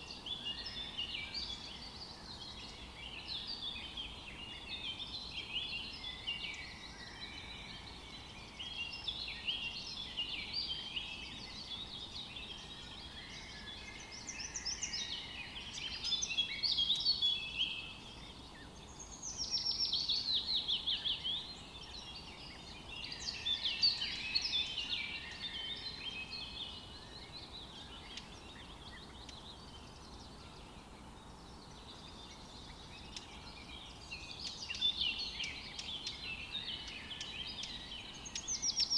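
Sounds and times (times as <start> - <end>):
faint steady hiss: 0.0 - 38.9
songbirds chirping and trilling: 0.0 - 38.9.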